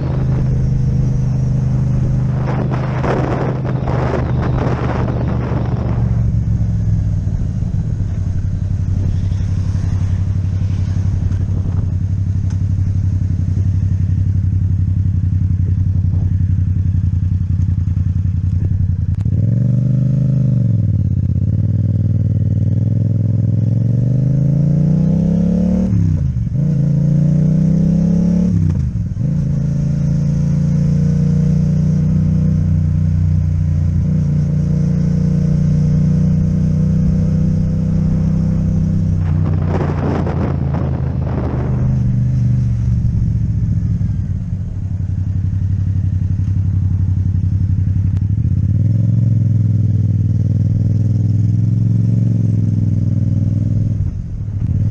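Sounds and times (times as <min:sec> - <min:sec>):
motorcycle engine running: 0:00.0 - 0:25.4, 0:26.1 - 0:54.9.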